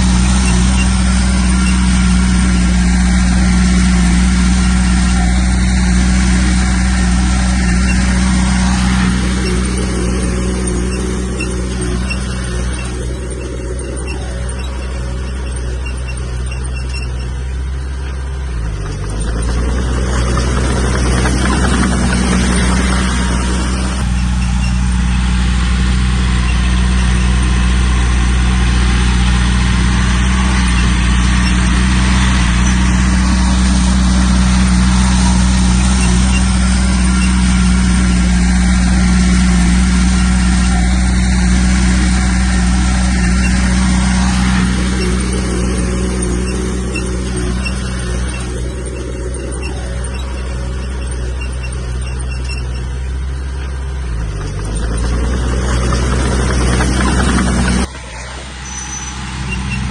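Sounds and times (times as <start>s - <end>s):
bulldozer diesel engine: 0.0s - 59.9s
grinding noise: 0.0s - 59.9s.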